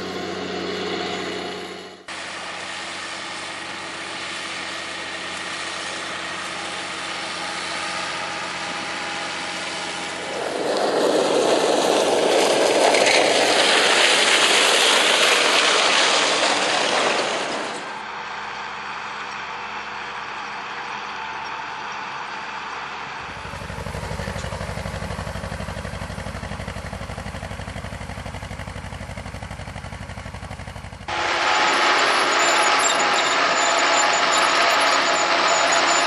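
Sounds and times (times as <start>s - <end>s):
farm machinery engine running: 0.0s - 36.0s.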